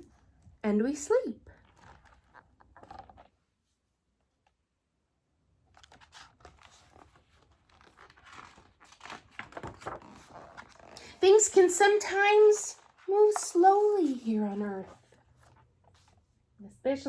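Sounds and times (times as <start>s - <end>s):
book pages rustling and turning: 1.6s - 4.7s, 5.6s - 16.6s.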